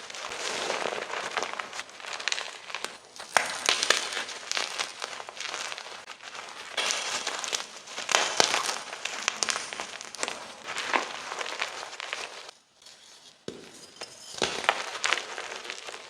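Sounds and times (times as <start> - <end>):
chalk blocks crunching: 0.0 - 16.0.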